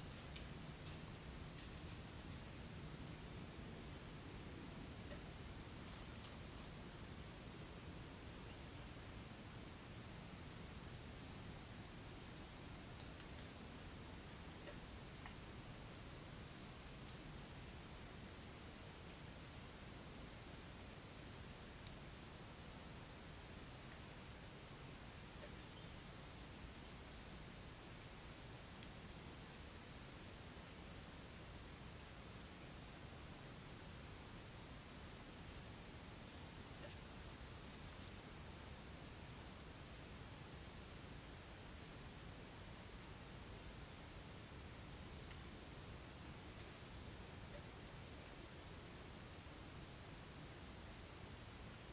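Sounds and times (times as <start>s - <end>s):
faint background hiss: 0.0s - 51.9s
small birds chirping: 0.1s - 22.4s, 23.0s - 28.0s, 28.6s - 39.9s, 40.8s - 41.4s, 43.7s - 44.2s, 45.2s - 47.8s.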